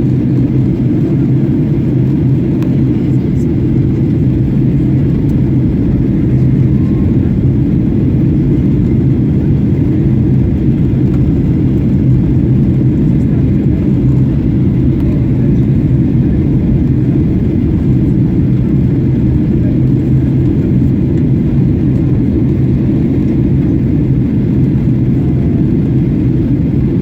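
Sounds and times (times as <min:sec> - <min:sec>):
airliner cabin roar: 0:00.0 - 0:27.0
constant low hum: 0:00.0 - 0:27.0.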